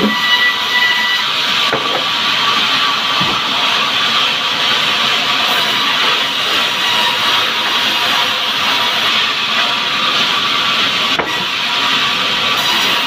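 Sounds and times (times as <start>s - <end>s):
sawmill saw cutting log: 0.0s - 13.0s.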